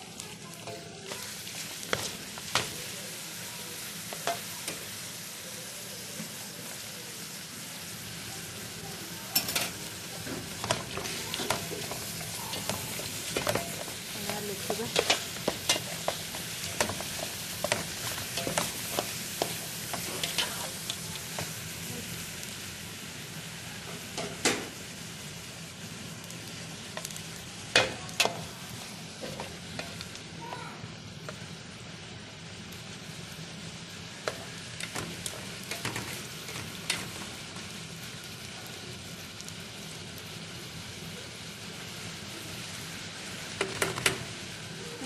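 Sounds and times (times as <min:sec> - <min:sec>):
okra sizzling in hot oil: 0:00.0 - 0:45.0.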